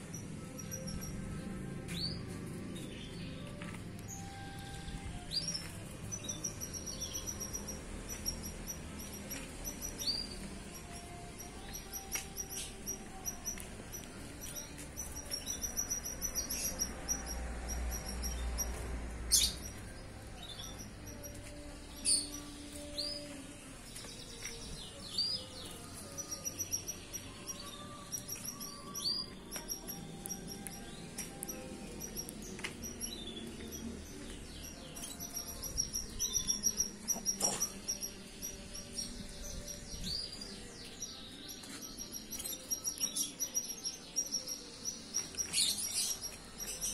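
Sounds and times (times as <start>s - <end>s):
canary chirping: 0.0s - 3.3s, 4.1s - 23.3s, 23.9s - 46.9s.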